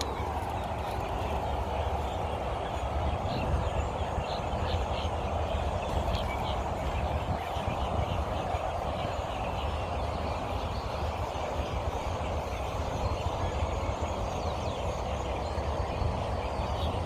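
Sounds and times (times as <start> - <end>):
flock of birds chattering: 0.0 - 17.0.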